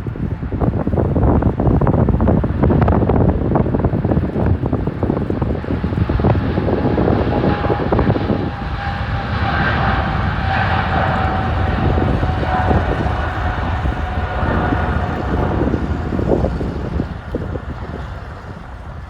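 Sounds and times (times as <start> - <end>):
jet engines roaring: 0.0 - 19.0
wind buffeting microphone: 0.0 - 19.0.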